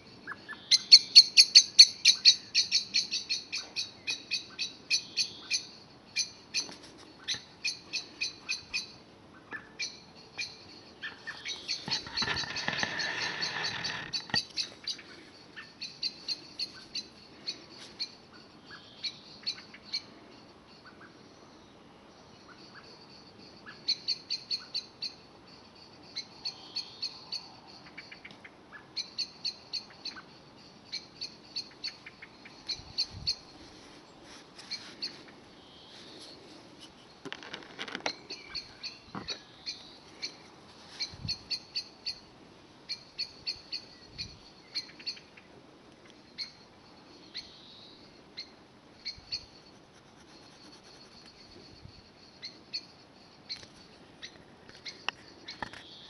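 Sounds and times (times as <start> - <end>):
bird chirping: 0.0 - 33.5, 34.7 - 42.3, 42.9 - 45.5, 46.1 - 56.0.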